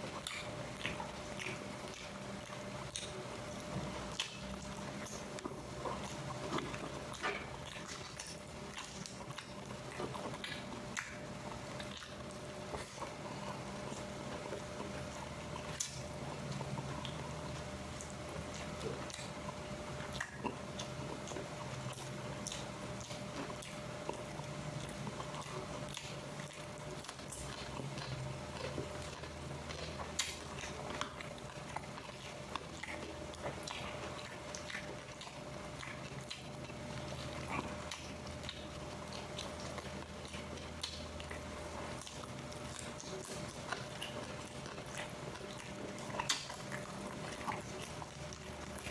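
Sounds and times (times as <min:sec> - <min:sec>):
person chewing food: 0:00.0 - 0:48.9
steady low hum: 0:00.0 - 0:48.9.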